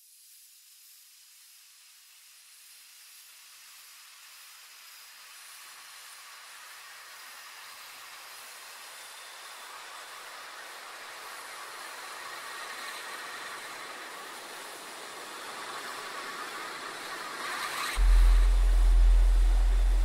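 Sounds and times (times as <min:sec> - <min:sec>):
rushing hiss: 0:00.0 - 0:20.0.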